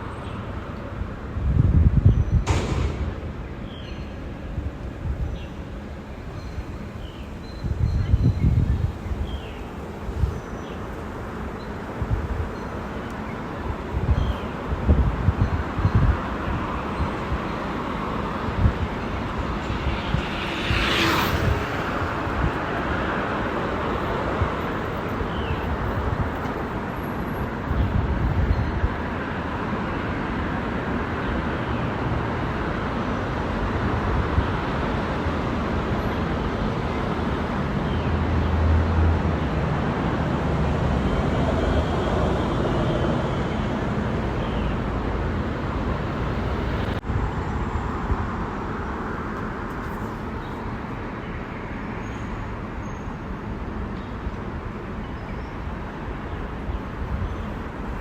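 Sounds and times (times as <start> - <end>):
road traffic noise: 0.0 - 58.0
vehicles passing: 0.0 - 58.0.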